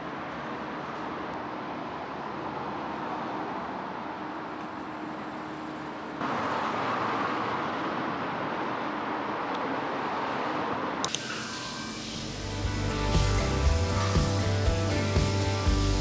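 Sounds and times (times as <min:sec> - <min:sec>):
street traffic ambience: 0:00.0 - 0:16.0.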